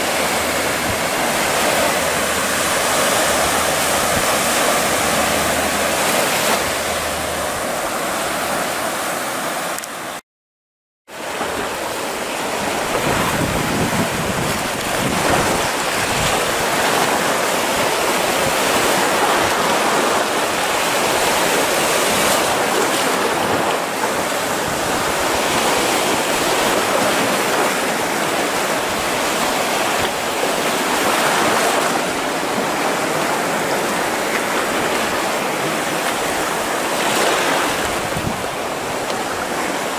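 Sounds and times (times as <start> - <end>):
waves washing over sand: 0.0 - 10.2, 11.1 - 39.9.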